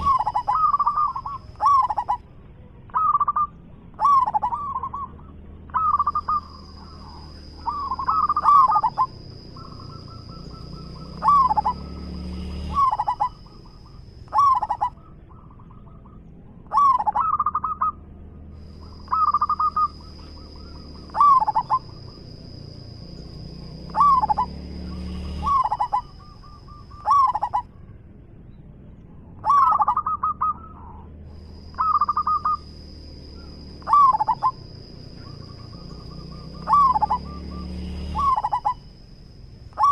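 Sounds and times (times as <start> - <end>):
dove cooing: 0.0 - 27.9, 29.4 - 39.0.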